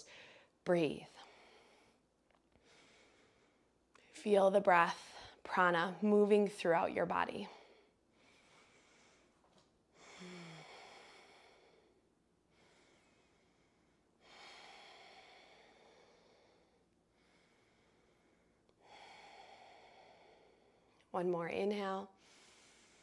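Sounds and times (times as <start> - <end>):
faint slow breathing: 0.0 - 4.2, 7.5 - 21.1, 22.1 - 23.0.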